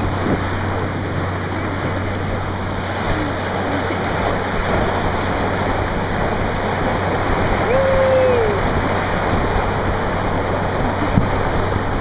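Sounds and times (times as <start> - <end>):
rushing water: 0.0 - 12.0
wind: 0.0 - 12.0.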